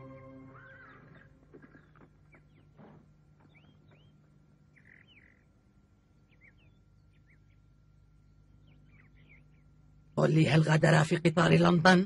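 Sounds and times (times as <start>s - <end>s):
faint bird chirping: 0.0s - 10.3s
low steady hum: 0.0s - 12.0s.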